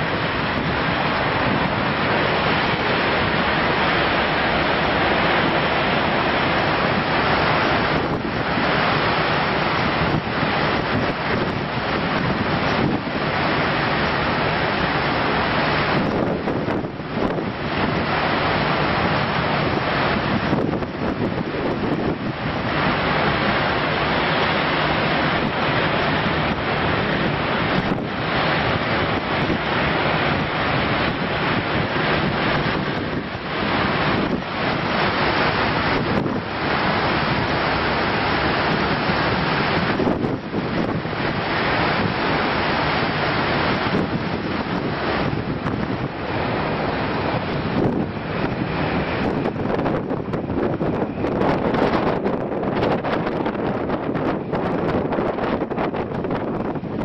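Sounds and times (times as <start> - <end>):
foaming water rushing: 0.0 - 57.0
wind buffeting microphone: 0.0 - 57.0.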